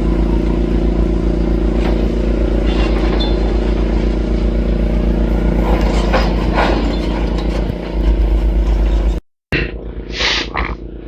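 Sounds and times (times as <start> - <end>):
crusher crunching and clattering: 0.0 - 9.2
excavator diesel engine running: 0.0 - 9.2.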